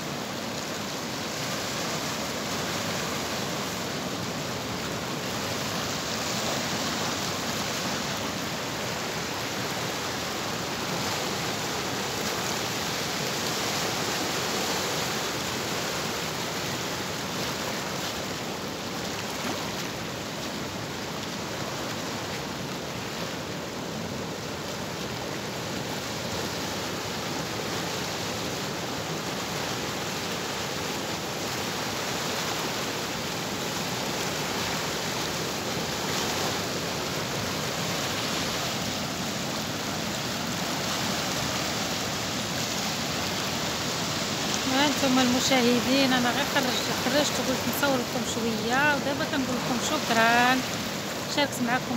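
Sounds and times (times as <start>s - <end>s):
waves breaking on rocks: 0.0s - 51.9s.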